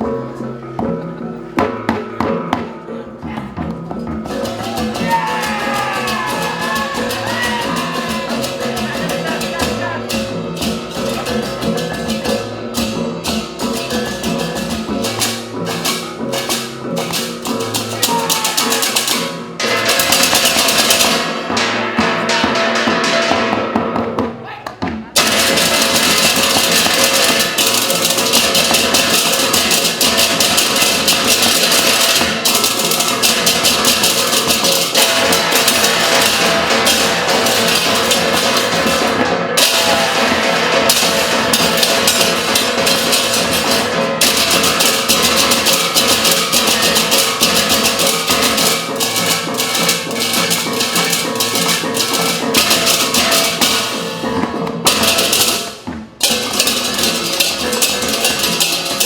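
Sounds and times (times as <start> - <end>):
percussion ensemble drumming: 0.0 - 59.0.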